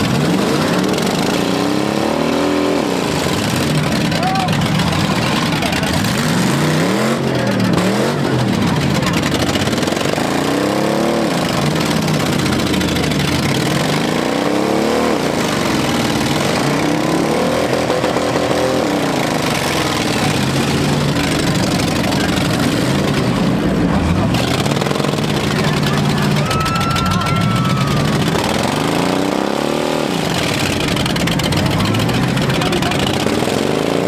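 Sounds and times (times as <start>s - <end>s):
din of running engines: 0.0s - 34.0s
truck engines revving: 0.0s - 34.0s.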